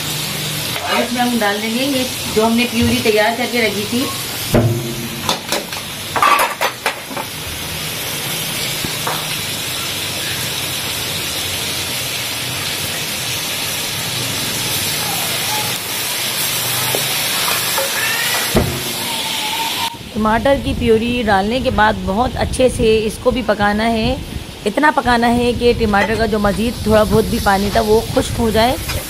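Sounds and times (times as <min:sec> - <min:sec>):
food sizzling in hot oil: 0:00.0 - 0:20.1, 0:22.9 - 0:29.0.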